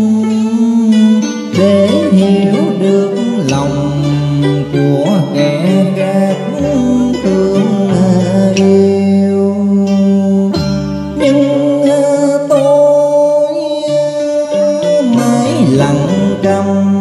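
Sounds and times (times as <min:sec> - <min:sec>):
plucked guitar music: 0:00.0 - 0:17.0.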